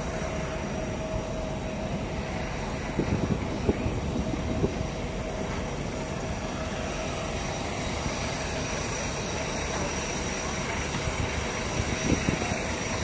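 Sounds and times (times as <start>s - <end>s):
faint whine: 0.0s - 13.0s
machinery low rumble: 0.0s - 13.0s.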